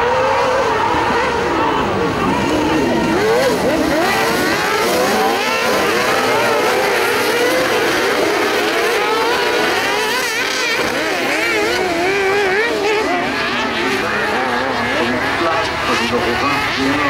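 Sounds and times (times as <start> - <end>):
buggy engines revving: 0.0 - 17.0.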